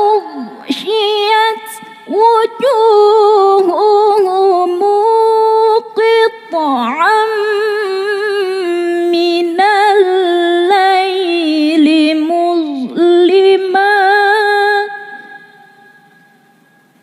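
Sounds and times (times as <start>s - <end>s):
woman reciting melodically: 0.0s - 16.1s.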